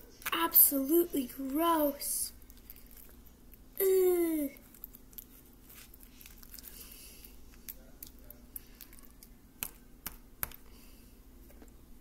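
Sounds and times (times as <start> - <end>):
slime squishing: 0.0 - 3.6, 4.4 - 10.8.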